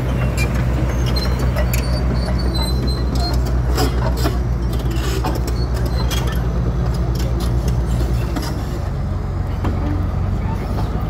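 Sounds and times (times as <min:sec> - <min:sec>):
heavy engine droning: 0:00.0 - 0:11.0.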